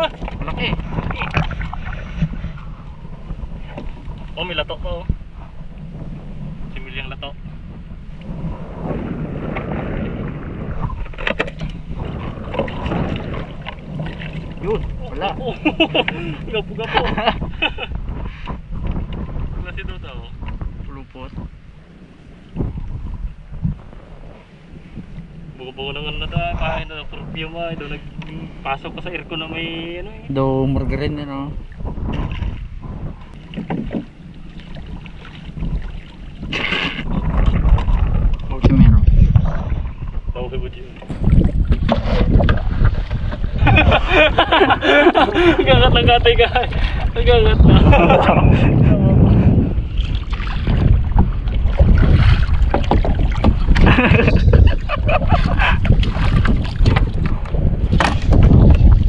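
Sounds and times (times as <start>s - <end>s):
water noise: 0.0s - 59.0s
wind: 0.0s - 59.0s.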